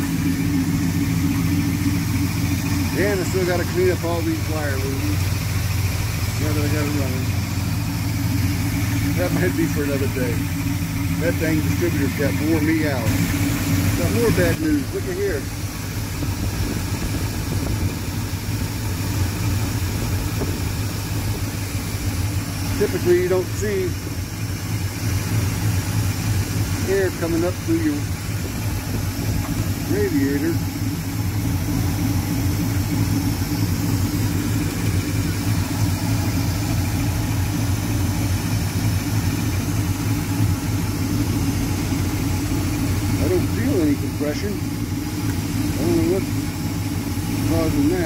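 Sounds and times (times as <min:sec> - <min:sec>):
pickup engine idling: 0:00.0 - 0:48.0.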